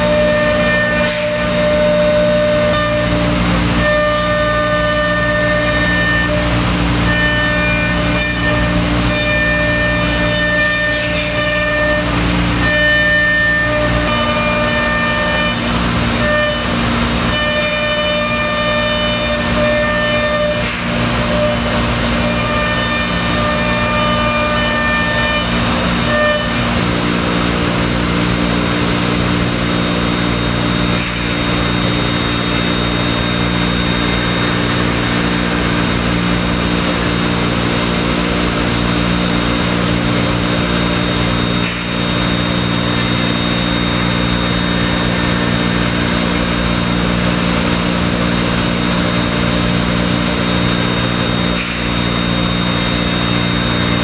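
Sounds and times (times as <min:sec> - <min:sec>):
cnc router milling: 0:00.0 - 0:54.0
constant hum: 0:00.0 - 0:54.0.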